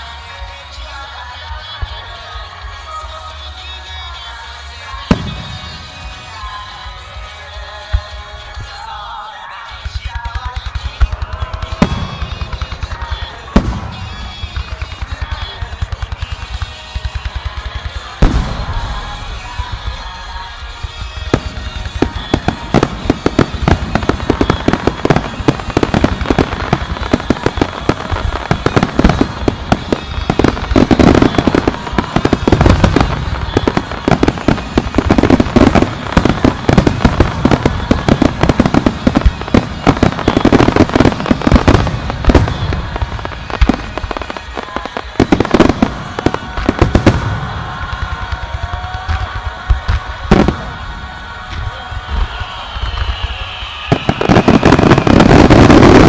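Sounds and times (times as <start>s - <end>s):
fireworks bursts and crackling: 0.0s - 56.0s
fireworks booms: 5.0s - 9.0s, 9.7s - 56.0s.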